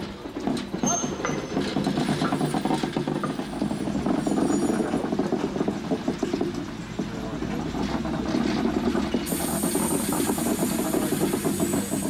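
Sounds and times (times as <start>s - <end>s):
railcar rumbling and rattling: 0.0s - 12.0s.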